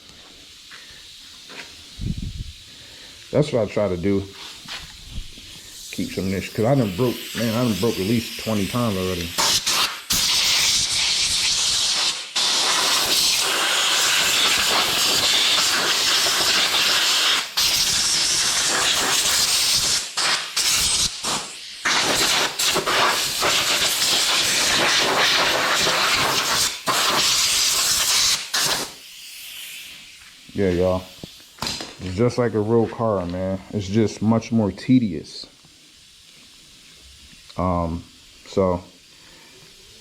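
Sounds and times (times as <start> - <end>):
air blow gun hissing: 0.0 - 36.9.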